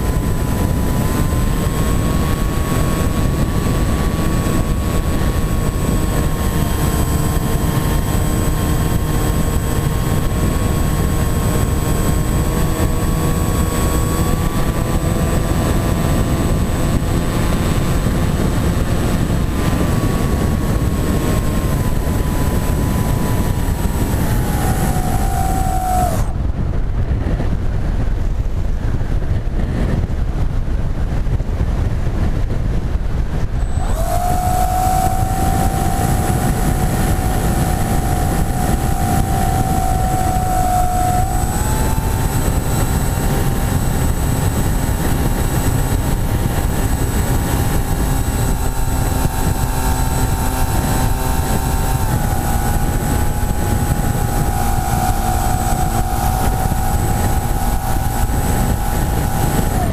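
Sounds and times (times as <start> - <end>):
motor and propeller whine: 0.0 - 59.9
wind rush on microphone: 0.0 - 59.9.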